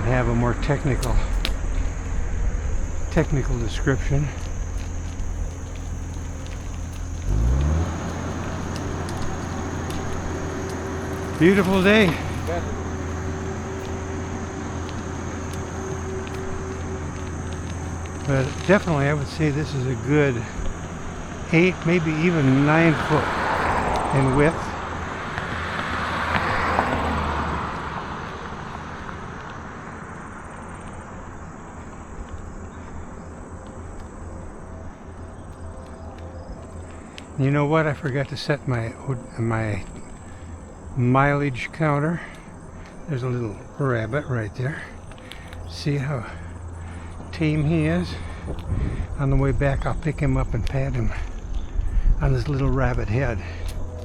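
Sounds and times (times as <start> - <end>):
wind rumbling on microphone: 0.0 - 41.6, 44.8 - 54.0
insect drone: 0.0 - 54.0
passing vehicle engine and tyres: 0.0 - 54.0.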